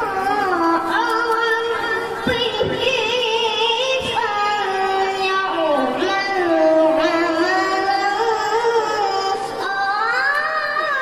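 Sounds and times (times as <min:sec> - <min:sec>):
boy reciting melodically through microphone: 0:00.0 - 0:11.0.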